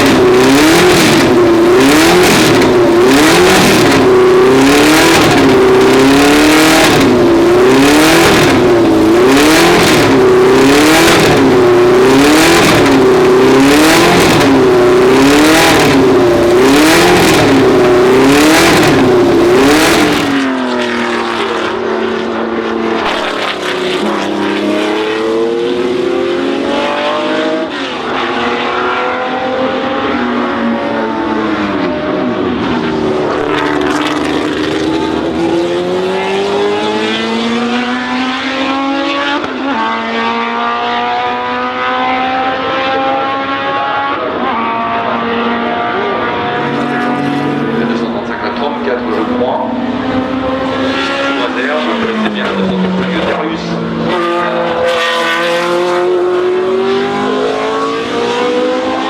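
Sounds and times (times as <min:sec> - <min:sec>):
racing car engine cycling in pitch: 0:00.0 - 0:22.3, 0:22.9 - 0:59.0
racing engine accelerating: 0:00.0 - 0:59.0.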